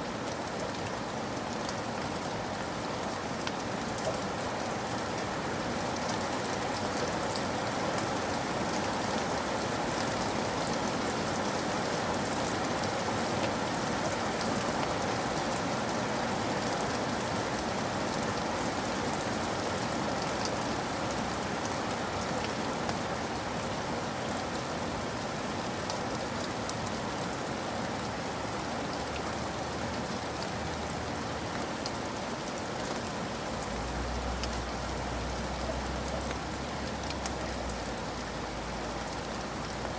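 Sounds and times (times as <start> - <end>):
heavy rain patter: 0.0 - 39.9.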